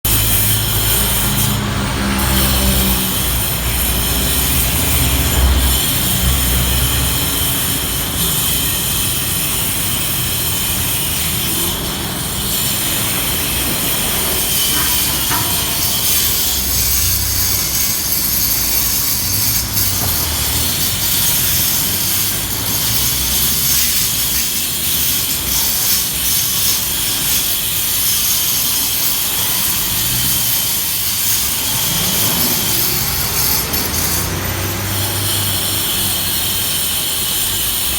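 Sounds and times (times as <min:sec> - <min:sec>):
electric grinder whining: 0:00.1 - 0:37.9.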